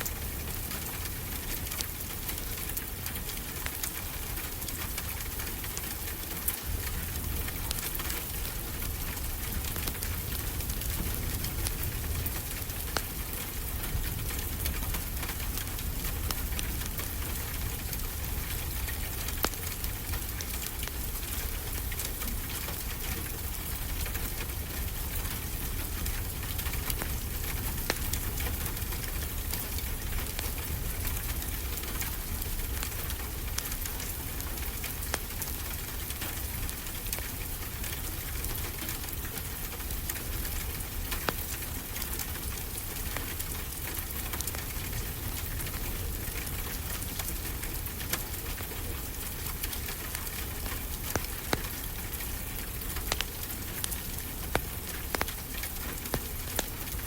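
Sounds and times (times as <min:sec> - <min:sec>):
steady rain falling: 0:00.0 - 0:57.0
wood fire crackling: 0:00.0 - 0:57.0.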